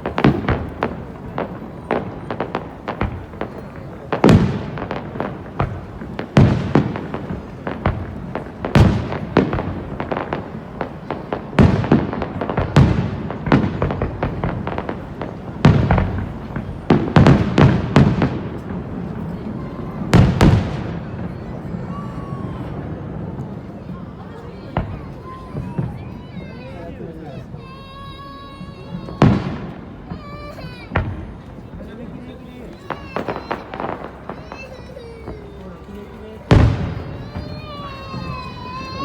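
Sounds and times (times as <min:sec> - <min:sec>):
crackling fireworks pops: 0:00.0 - 0:39.0
fireworks bangs: 0:00.0 - 0:39.0.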